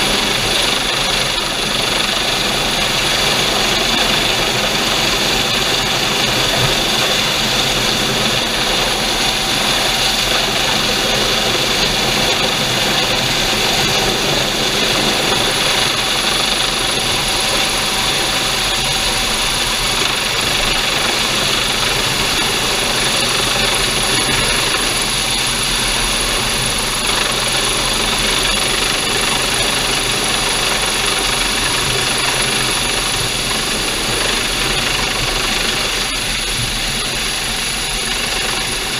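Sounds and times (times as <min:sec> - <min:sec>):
helicopter hovering overhead: 0:00.0 - 0:38.9.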